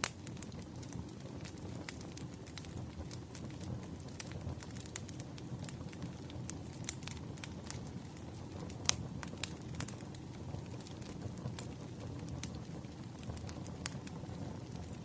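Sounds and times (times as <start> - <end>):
campfire crackling and popping: 0.0 - 15.0
low rumble of burning wood: 0.0 - 15.0.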